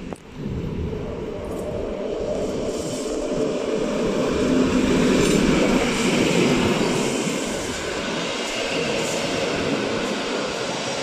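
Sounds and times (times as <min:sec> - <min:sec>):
diesel locomotive passing: 0:00.0 - 0:11.0
train coaches rolling by: 0:00.0 - 0:11.0.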